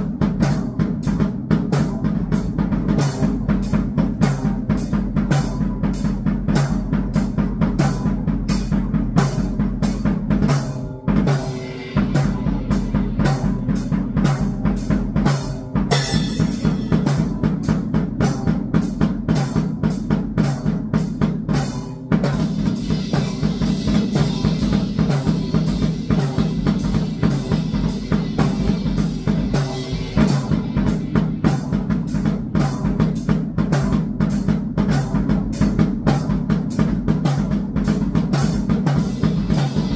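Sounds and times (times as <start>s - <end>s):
drum kit fast beat: 0.0s - 39.9s.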